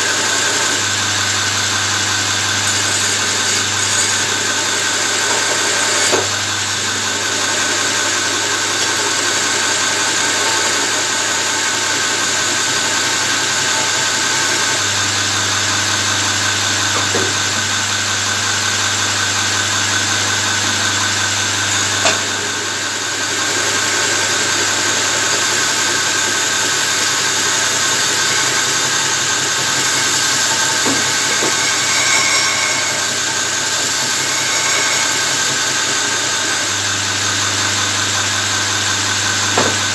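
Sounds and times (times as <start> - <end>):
belt grinder grinding steel: 0.0 - 39.9.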